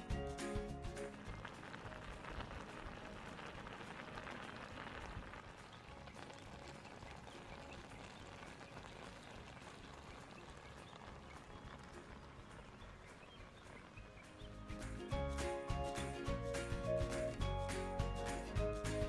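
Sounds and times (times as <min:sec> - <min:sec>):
pasta and cheese simmering: 0:00.1 - 0:18.0.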